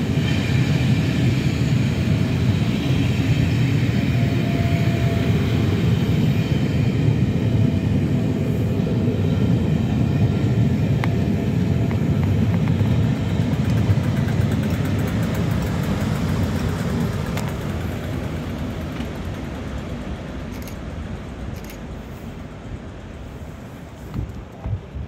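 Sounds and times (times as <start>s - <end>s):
train rumbling past on rails: 0.0s - 25.0s.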